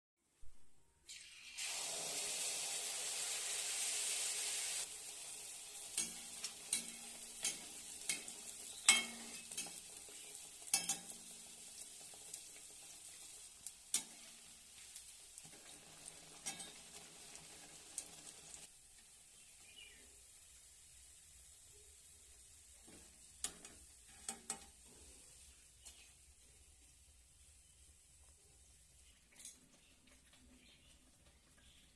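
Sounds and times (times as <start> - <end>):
batter sizzling in hot fat: 1.1 - 31.9.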